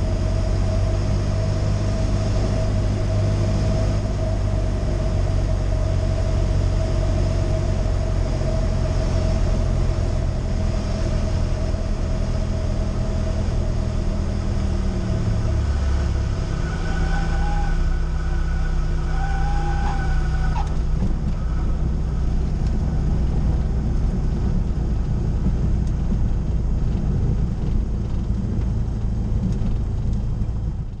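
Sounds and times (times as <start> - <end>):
propeller plane engine running: 0.0 - 31.0
wheels rumbling on runway: 0.0 - 31.0.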